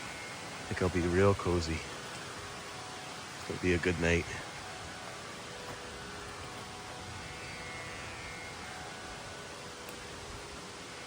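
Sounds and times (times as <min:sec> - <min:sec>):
rushing mountain brook: 0:00.0 - 0:11.0.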